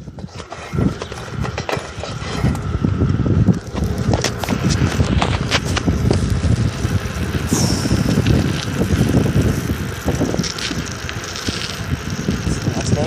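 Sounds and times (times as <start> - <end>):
bicycle clicks and rattles: 0.0 - 13.0
bicycle rumbling over rough trail: 0.0 - 13.0.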